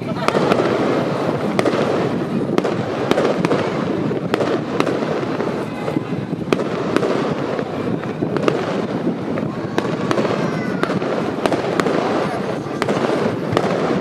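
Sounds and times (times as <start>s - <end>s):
fireworks bursts and crackle: 0.0s - 14.0s
sharp firework cracks: 0.0s - 14.0s.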